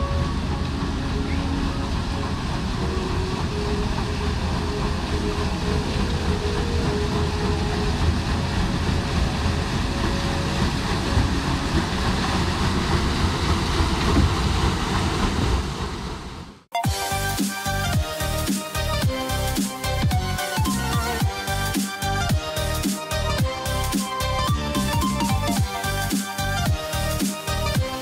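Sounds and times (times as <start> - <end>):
boat rumbling: 0.0 - 28.0.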